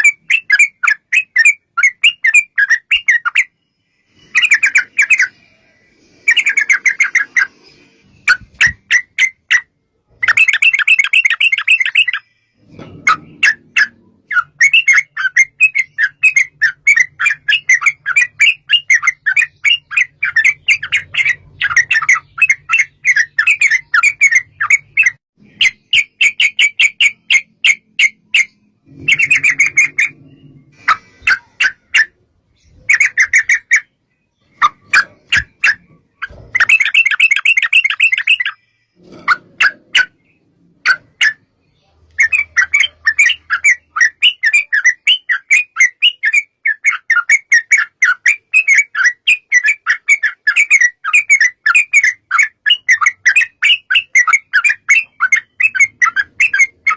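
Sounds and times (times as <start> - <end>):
bird singing fast chattering notes: 0.0 - 12.5, 13.1 - 56.9.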